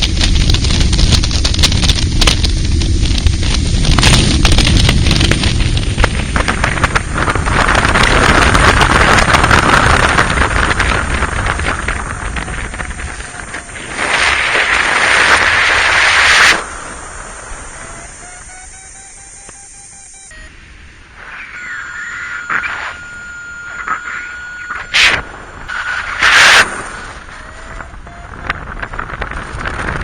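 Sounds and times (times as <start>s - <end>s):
strong wind buffeting microphone: 0.0s - 18.3s, 20.6s - 30.0s.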